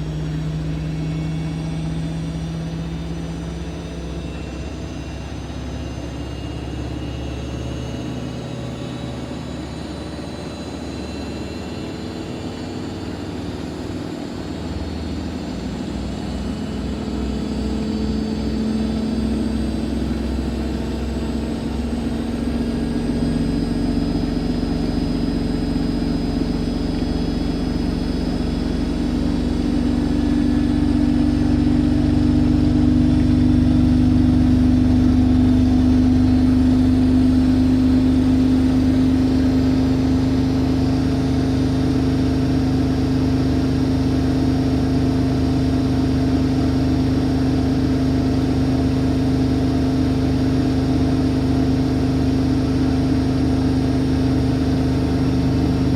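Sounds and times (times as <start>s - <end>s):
washing machine spinning: 0.0s - 55.9s.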